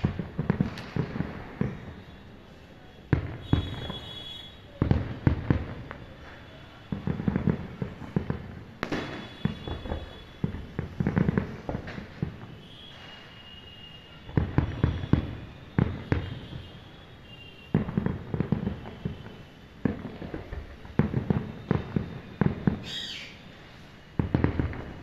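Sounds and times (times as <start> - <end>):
fireworks bursting with bangs and crackles: 0.0 - 25.0.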